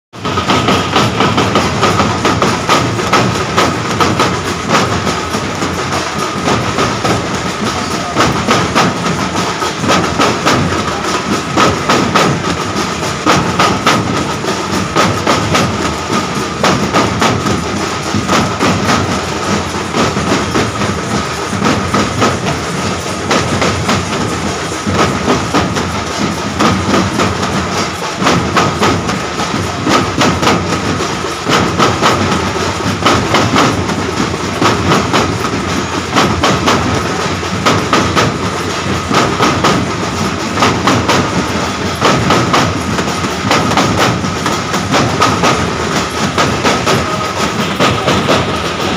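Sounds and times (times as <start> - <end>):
large drums beating fast: 0.1 - 48.9.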